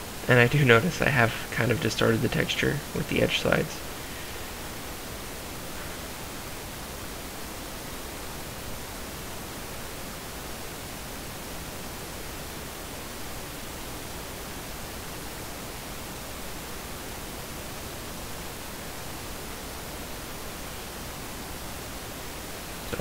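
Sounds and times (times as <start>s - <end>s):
steady microphone hiss: 0.0s - 23.0s.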